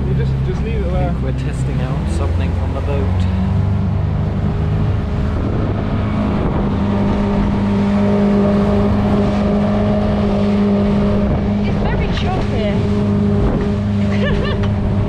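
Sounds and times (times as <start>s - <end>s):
outboard motor drone: 0.0s - 15.0s
water rushing: 0.0s - 15.0s
wind: 0.0s - 15.0s.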